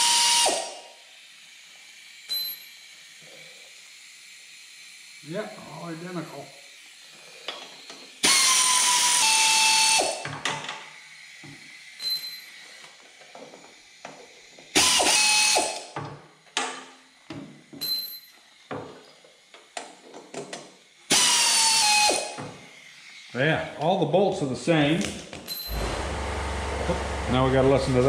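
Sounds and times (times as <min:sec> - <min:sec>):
pneumatic air ratchet whirring: 0:00.0 - 0:23.4, 0:25.3 - 0:27.4.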